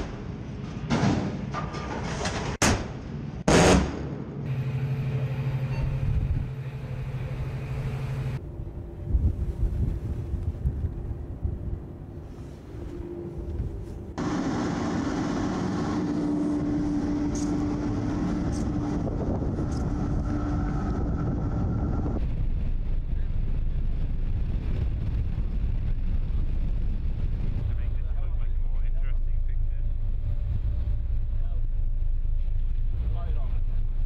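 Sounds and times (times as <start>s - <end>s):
wind: 0.0s - 34.0s
low machinery rumble: 4.1s - 34.0s.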